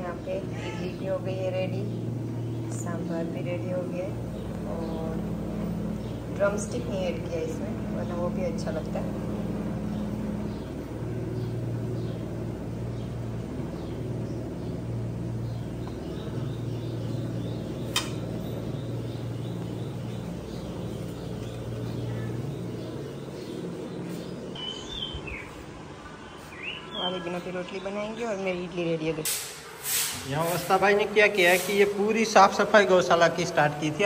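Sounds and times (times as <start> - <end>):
steady low hum: 0.0 - 29.2
birds chirping faintly: 0.0 - 34.0.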